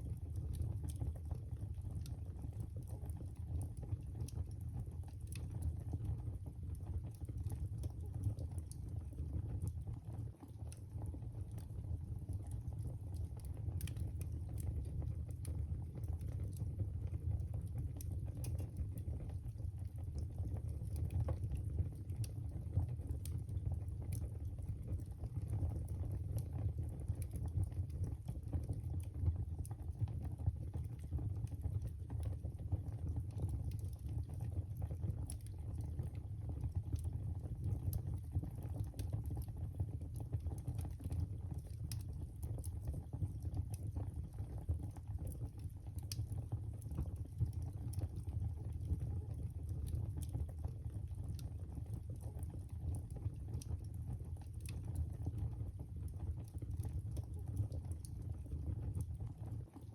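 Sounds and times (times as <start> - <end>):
low fire rumble: 0.0 - 59.9
wood fire crackling: 0.2 - 59.9.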